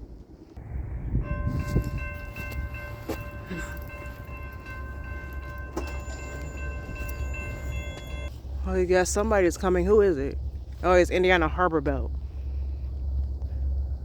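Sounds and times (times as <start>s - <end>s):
train rumbling: 0.6s - 14.0s.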